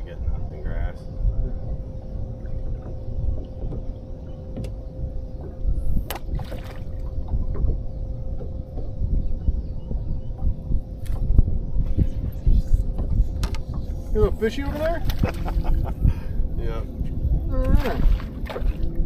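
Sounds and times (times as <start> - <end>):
boat engine rumble: 0.0 - 19.0
thin hum: 0.0 - 19.0.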